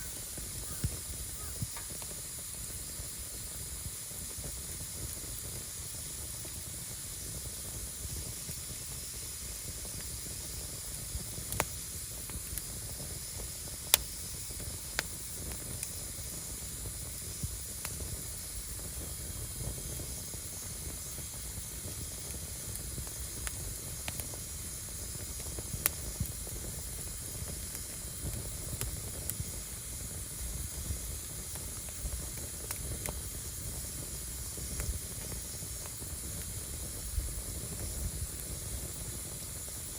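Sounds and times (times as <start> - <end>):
wood crackling and popping: 0.0 - 6.7, 7.4 - 39.9
firewood burning: 0.0 - 39.9.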